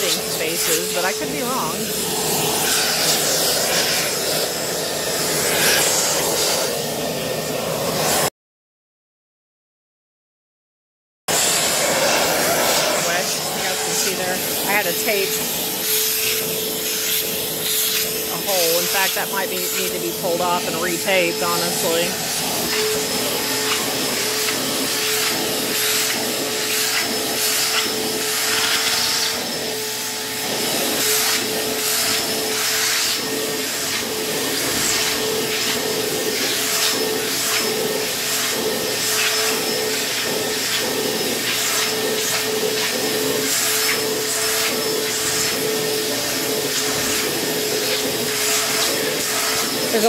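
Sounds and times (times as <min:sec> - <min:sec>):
vacuum cleaner whining: 0:00.0 - 0:08.3, 0:11.3 - 0:50.0
vacuum nozzle hissing over fabric: 0:00.0 - 0:08.3, 0:11.3 - 0:50.0.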